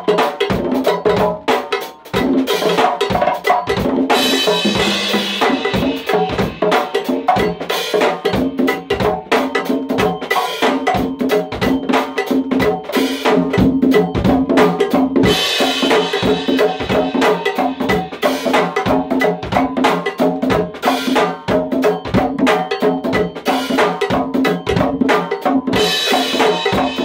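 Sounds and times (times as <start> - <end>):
congas played by hand: 0.0 - 27.0.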